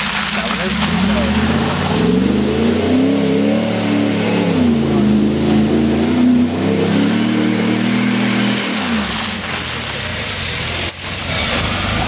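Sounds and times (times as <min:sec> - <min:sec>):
mud and water splashing: 0:00.0 - 0:12.0
truck engine revving: 0:00.0 - 0:12.0.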